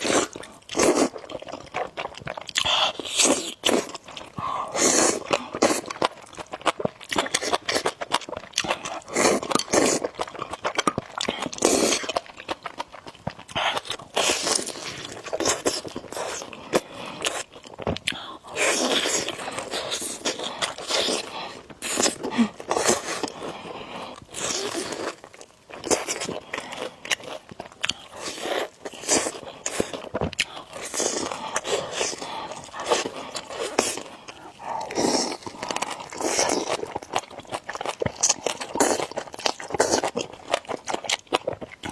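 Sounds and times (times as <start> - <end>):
chewing and slurping noodles: 0.0 - 41.9.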